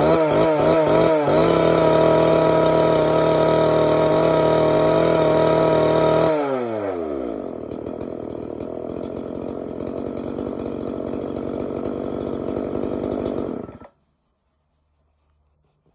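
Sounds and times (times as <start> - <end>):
two-stroke engine cutter running: 0.0 - 14.0.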